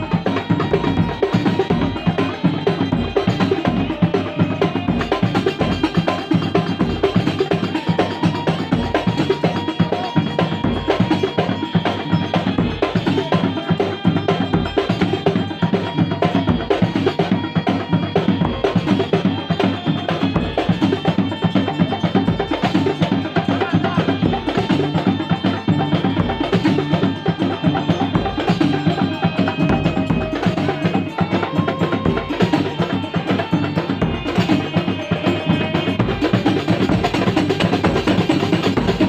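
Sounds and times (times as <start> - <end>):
fast percussion ensemble drumming: 0.0 - 39.0.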